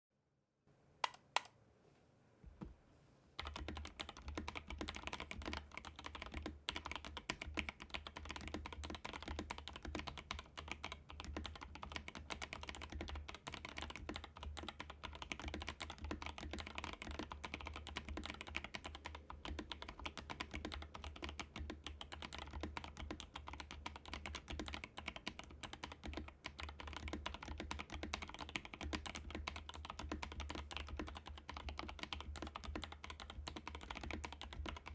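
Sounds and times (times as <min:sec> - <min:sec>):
typing on mechanical keyboard: 0:03.4 - 0:34.9.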